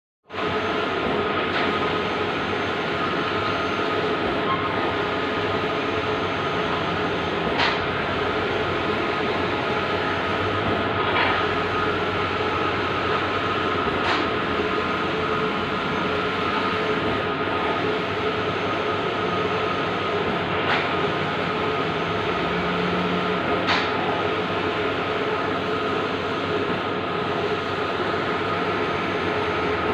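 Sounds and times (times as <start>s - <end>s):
printer mechanical hum: 0.3s - 29.9s.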